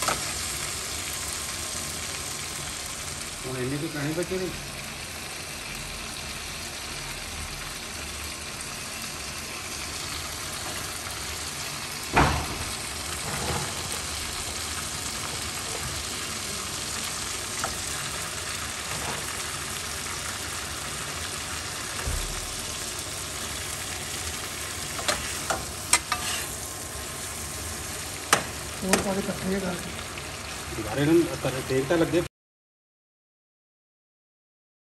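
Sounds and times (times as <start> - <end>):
chicken frying in oil: 0.0 - 32.3.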